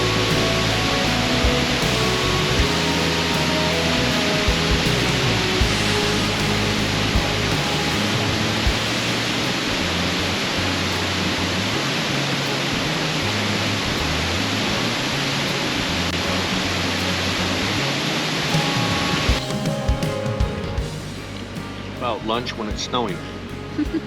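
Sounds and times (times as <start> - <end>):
background music with low notes: 0.0 - 24.0.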